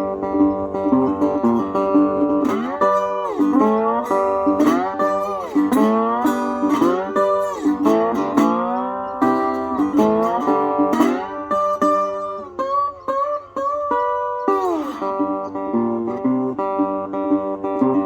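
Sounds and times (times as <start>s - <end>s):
electric guitar chords: 0.0s - 18.0s
slide lead guitar: 0.0s - 18.0s.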